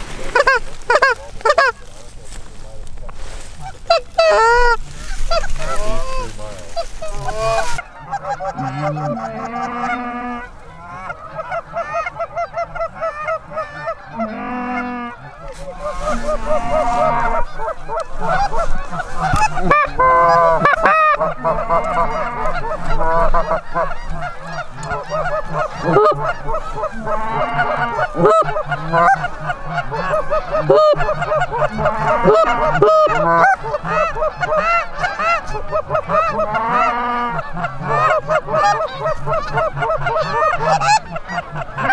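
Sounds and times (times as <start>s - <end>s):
flock of geese honking: 0.0s - 41.9s.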